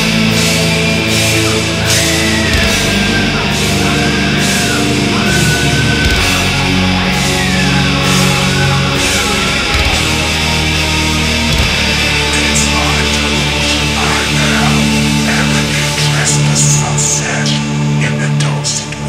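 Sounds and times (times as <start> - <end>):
high melodic line bending in pitch: 0.0 - 16.6
symphonic black metal music: 0.0 - 19.0.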